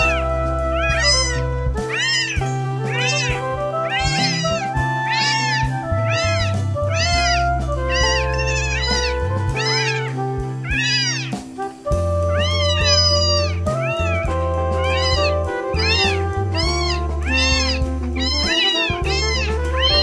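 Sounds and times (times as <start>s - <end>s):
kittens meowing: 0.0s - 11.6s, 12.2s - 20.0s
music with low held notes: 0.0s - 20.0s.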